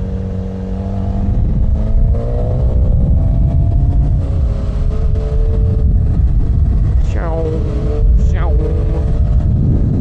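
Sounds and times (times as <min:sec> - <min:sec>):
motorcycle engine revving: 0:00.0 - 0:10.0
wind rumble on microphone: 0:00.0 - 0:10.0.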